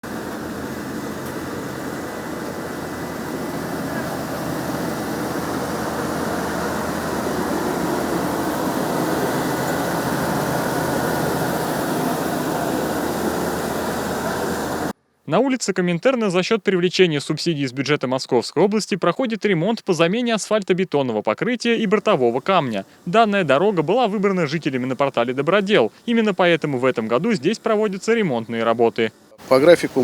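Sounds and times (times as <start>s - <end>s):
road-works machinery engines running: 0.0s - 15.0s, 19.7s - 30.0s.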